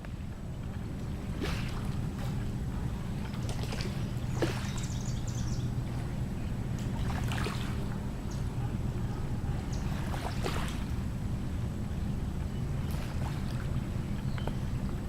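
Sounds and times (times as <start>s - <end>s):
river water splashing at bank: 0.0s - 15.0s
steady low rumble: 0.0s - 15.0s.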